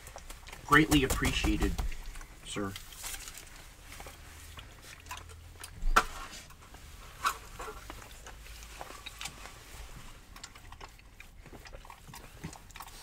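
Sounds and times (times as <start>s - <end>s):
cups and food clicking and rustling: 0.0s - 13.0s.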